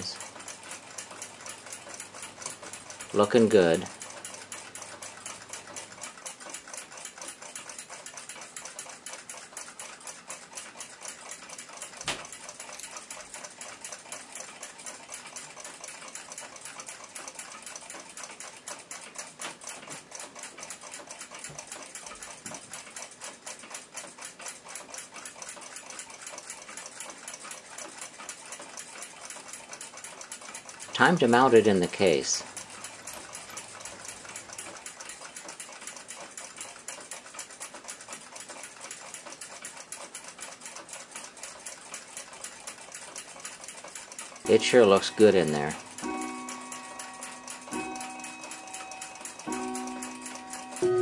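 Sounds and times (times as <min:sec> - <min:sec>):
clock movement clicking: 0:00.0 - 0:51.0.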